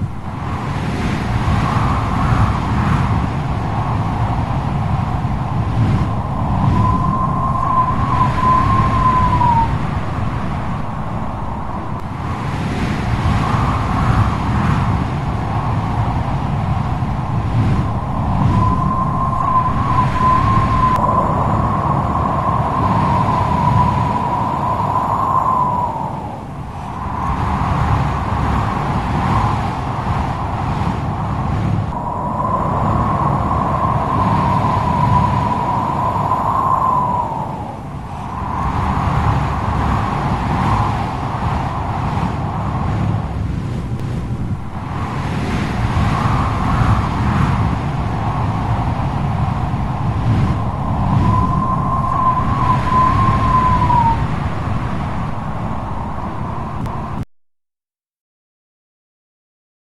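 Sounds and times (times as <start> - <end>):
strong wind gusting: 0.0 - 57.2
high wavering wind whistle: 1.2 - 57.2.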